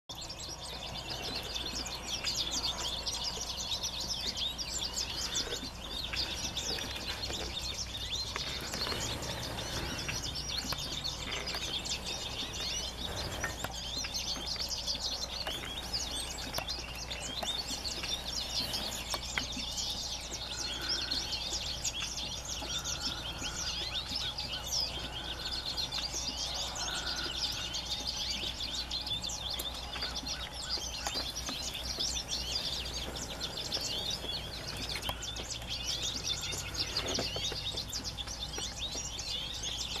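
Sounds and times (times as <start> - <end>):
finches twittering chirps: 0.1 - 40.0.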